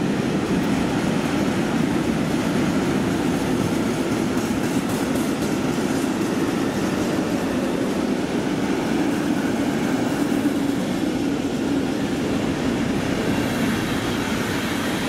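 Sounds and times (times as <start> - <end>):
train rolling past: 0.0 - 15.0.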